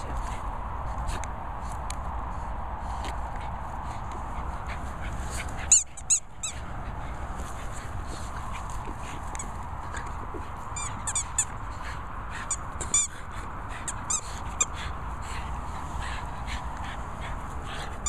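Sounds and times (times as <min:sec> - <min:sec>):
dogs playing tug-of-war: 0:00.0 - 0:18.0.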